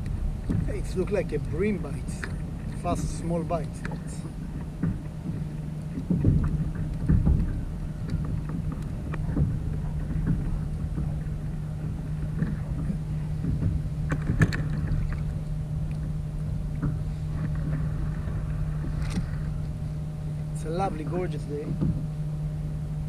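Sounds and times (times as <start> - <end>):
water slapping against kayak hull: 0.0 - 22.1
steady low hum: 0.0 - 23.0.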